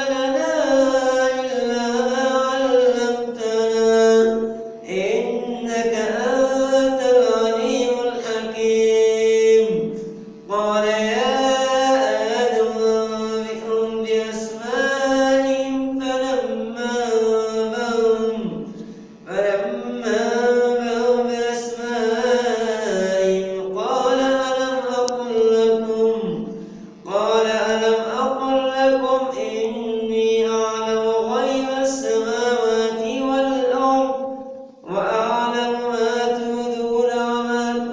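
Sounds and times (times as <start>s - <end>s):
man chanting melodic recitation: 0.0s - 37.9s.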